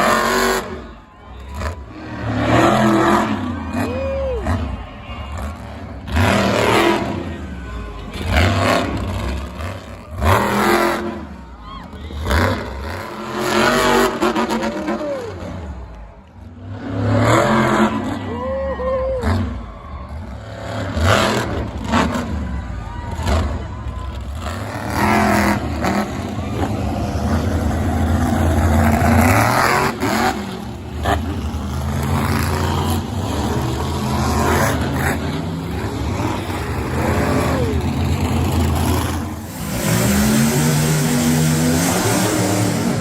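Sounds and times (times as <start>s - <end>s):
monster truck engine revving: 0.0s - 43.0s.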